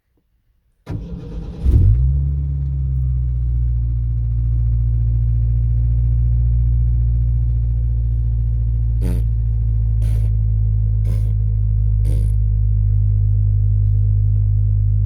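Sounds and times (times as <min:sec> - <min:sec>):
car engine idling: 0:00.9 - 0:15.0.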